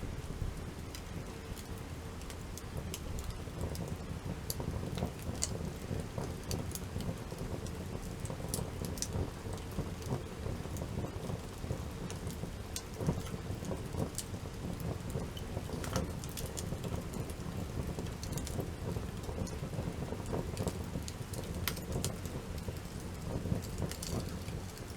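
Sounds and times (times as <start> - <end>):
campfire burning: 0.0 - 24.9
fire crackling and popping: 0.1 - 24.9.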